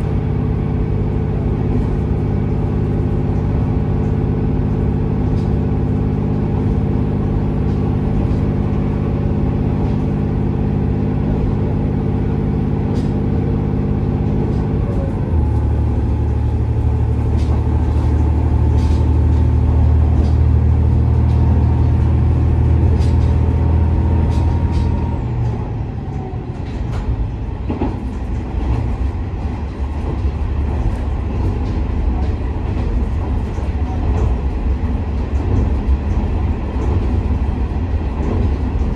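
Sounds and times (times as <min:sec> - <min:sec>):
diesel engine droning: 0:00.0 - 0:38.9
wheels rumbling on rail: 0:00.0 - 0:38.9.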